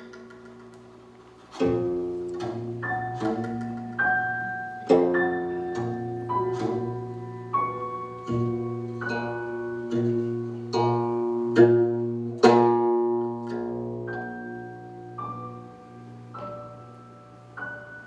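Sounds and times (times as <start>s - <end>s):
slow plucked notes: 0.0s - 18.0s.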